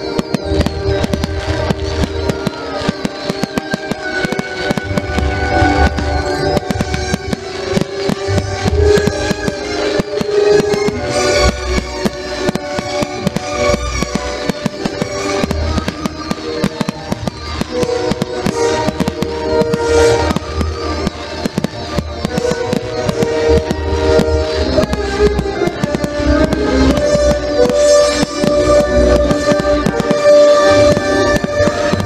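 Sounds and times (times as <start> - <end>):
fireworks bangs and crackling: 0.0 - 32.0
music with held notes: 0.0 - 32.0.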